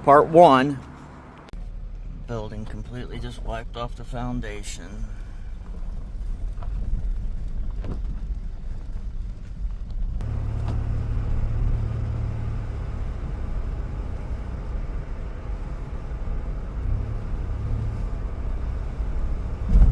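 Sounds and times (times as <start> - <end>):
steady low rumble: 0.9 - 19.9.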